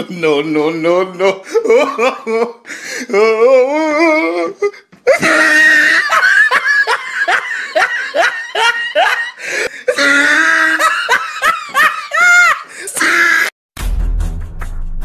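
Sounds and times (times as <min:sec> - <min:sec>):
person laughing hard: 0:01.3 - 0:13.5.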